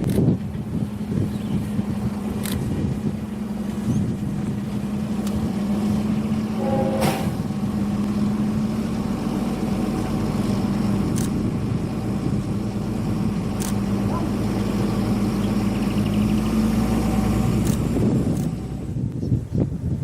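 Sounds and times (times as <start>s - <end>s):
diesel train engine drone: 0.0s - 20.0s.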